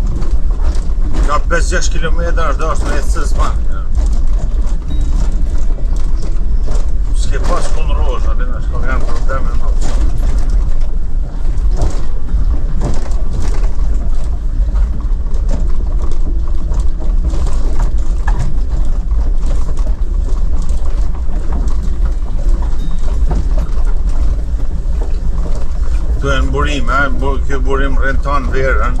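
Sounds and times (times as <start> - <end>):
knocks and rattles: 0.0 - 29.0
vehicle engine and road rumble: 0.0 - 29.0.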